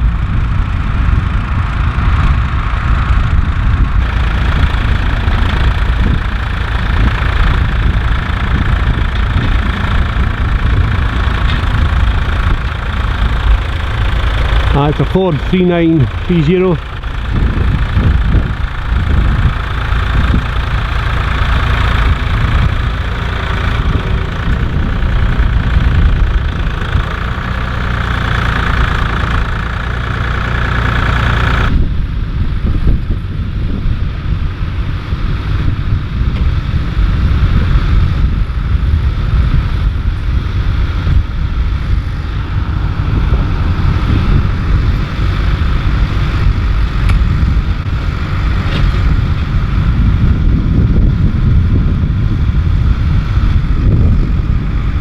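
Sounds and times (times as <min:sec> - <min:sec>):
tractor diesel engine rumbling: 0:00.0 - 0:55.0.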